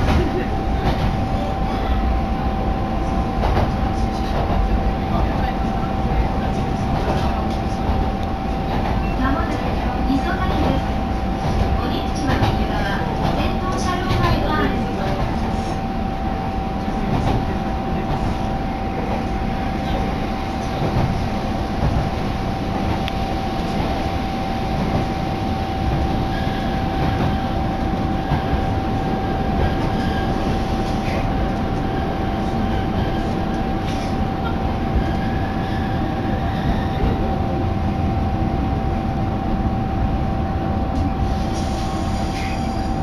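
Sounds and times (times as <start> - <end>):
railcar engine and wheels rumbling: 0.0 - 43.0.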